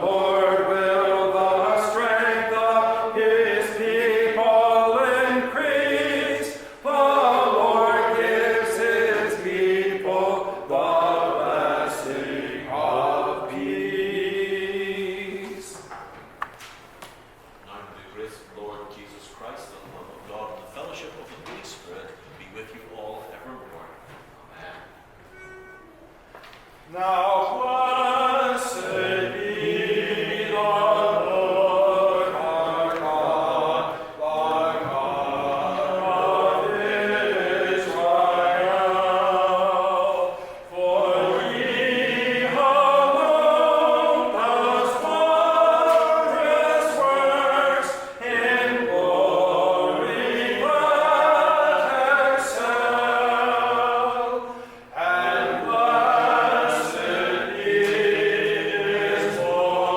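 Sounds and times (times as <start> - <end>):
congregation singing unaccompanied: 0.0 - 16.2, 26.8 - 59.9.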